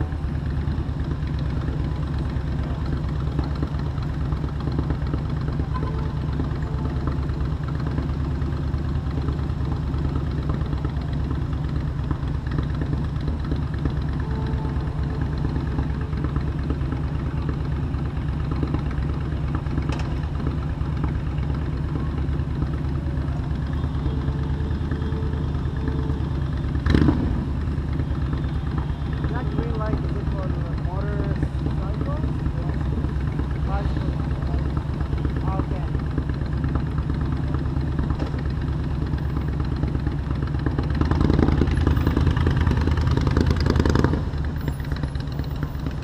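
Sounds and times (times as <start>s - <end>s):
motorcycle engine at low revs: 0.0s - 46.0s.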